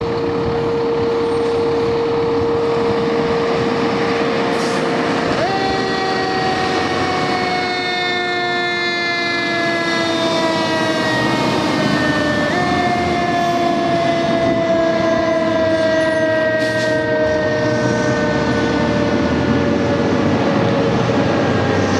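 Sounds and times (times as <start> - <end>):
fire engine siren: 0.0 - 21.9.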